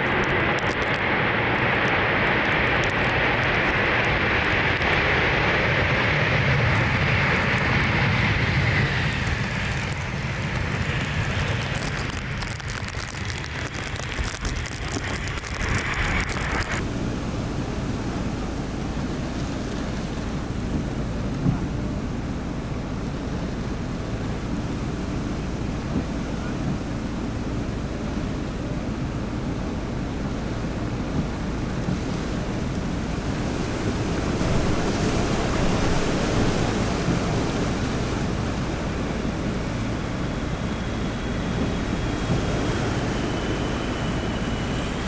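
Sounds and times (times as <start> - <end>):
jet airliner rumble: 0.0 - 45.0
wind buffeting microphone: 0.0 - 45.0.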